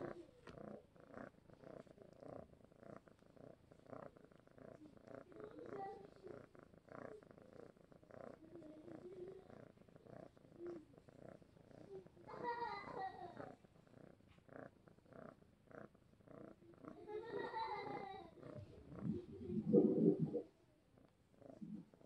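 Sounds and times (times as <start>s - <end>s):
cat purring softly: 0.0s - 22.0s.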